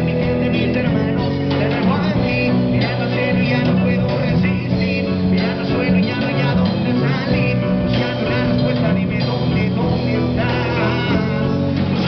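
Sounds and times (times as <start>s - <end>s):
drum kit: 0.0s - 12.0s
electric bass: 0.0s - 12.0s
electric guitar: 0.0s - 12.0s
man singing into microphone: 0.0s - 12.0s.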